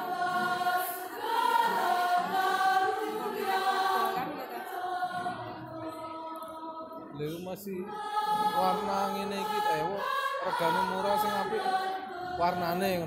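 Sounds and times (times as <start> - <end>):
women's choir singing: 0.0 - 13.0.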